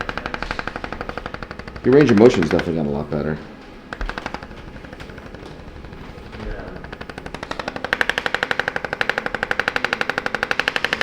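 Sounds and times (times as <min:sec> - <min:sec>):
rapid mechanical tapping: 0:00.0 - 0:11.0.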